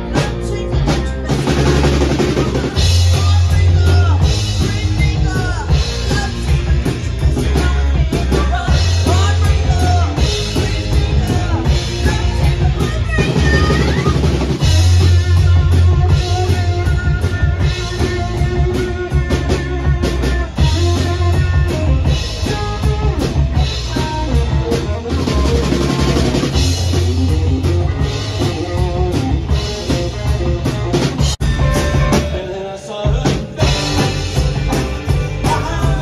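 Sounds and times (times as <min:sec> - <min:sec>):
drum kit: 0:00.0 - 0:36.0
electric bass: 0:00.0 - 0:36.0
electric guitar lead lines: 0:00.0 - 0:36.0.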